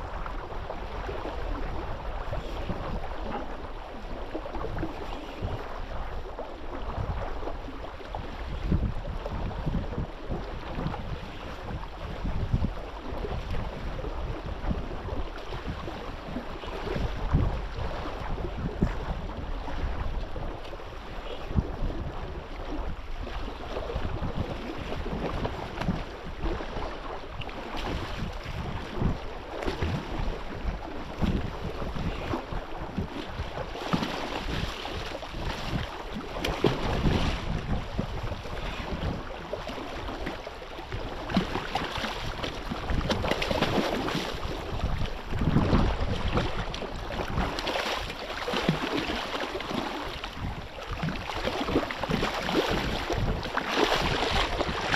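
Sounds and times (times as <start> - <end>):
water sloshing and lapping: 0.0 - 54.9
wind buffeting microphone: 0.0 - 54.9.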